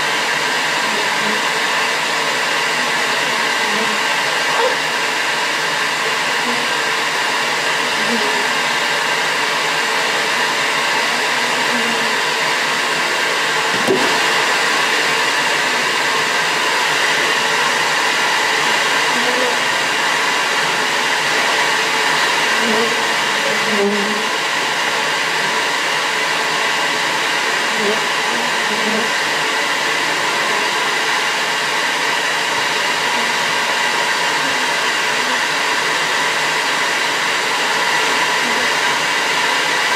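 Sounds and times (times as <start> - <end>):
vacuum motor running: 0.0 - 39.9.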